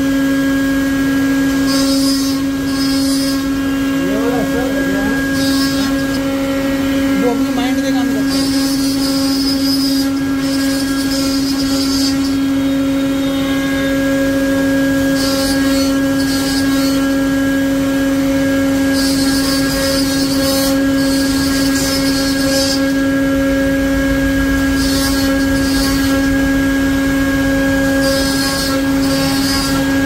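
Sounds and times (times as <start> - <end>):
router spindle whine: 0.0 - 30.0.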